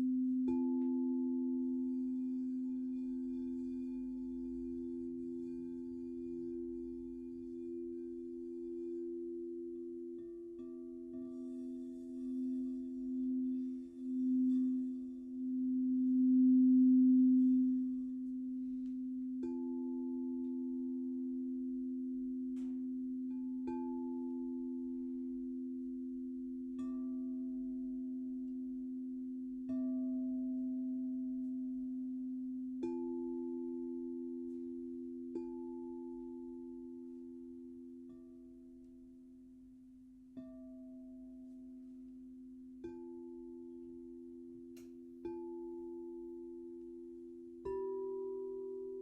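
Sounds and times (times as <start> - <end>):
singing bowls sustained tones: 0.0 - 49.0.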